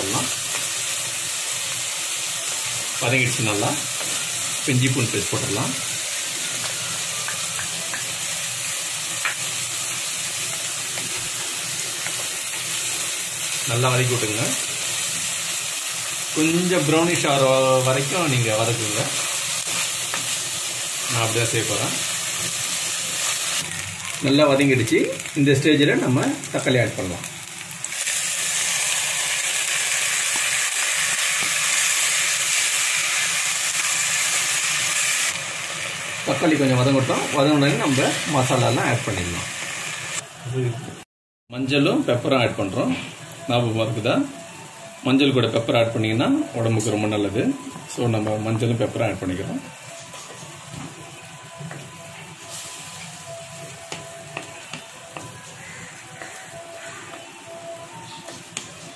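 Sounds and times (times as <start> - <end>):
onions sizzling in hot oil: 0.0 - 40.7, 41.6 - 58.9.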